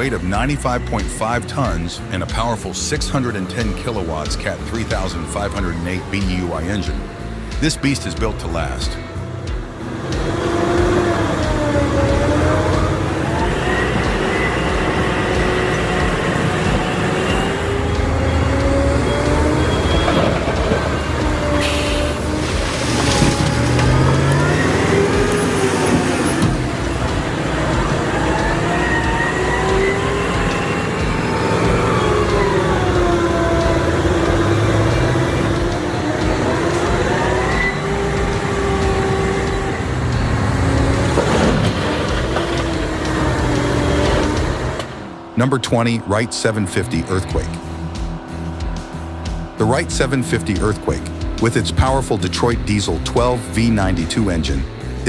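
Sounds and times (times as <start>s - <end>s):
diesel engine running: 0.0s - 55.0s
engine whine: 0.0s - 55.0s.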